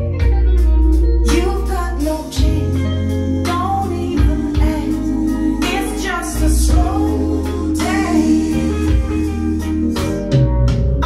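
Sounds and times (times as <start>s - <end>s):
blues-rock song over loudspeakers: 0.0s - 11.0s
deep heavy bass: 0.0s - 11.0s
guitar phrases: 0.0s - 11.0s.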